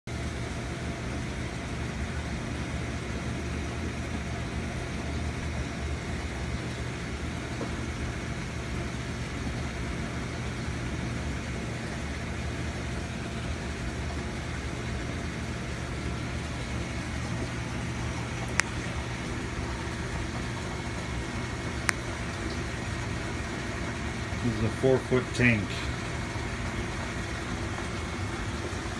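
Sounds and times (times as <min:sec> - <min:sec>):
aquarium equipment humming: 0:00.1 - 0:28.9.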